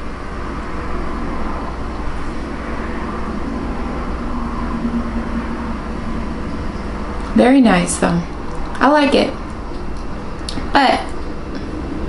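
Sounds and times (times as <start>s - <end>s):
faint steady hum: 0.0s - 12.0s
low rumble and hiss: 0.0s - 12.0s.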